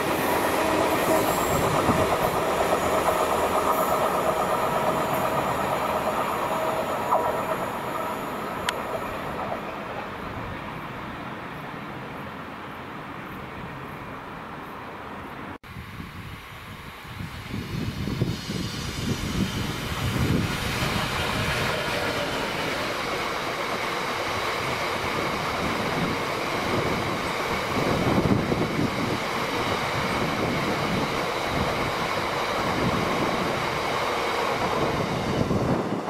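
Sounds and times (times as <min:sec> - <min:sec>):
train wheels rumbling on rails: 0:00.0 - 0:10.9, 0:17.1 - 0:36.0
diesel locomotive passing: 0:00.0 - 0:12.8, 0:17.2 - 0:36.0.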